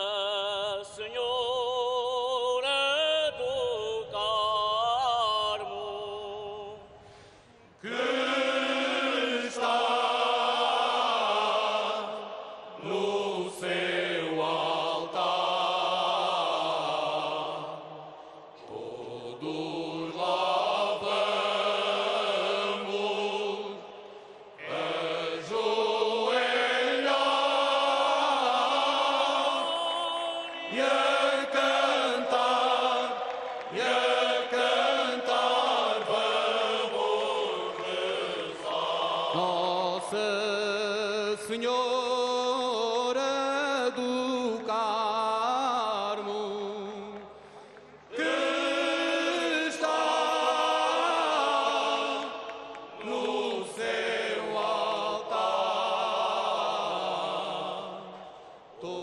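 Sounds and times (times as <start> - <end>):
male choir singing: 7.8 - 47.3, 48.1 - 59.0.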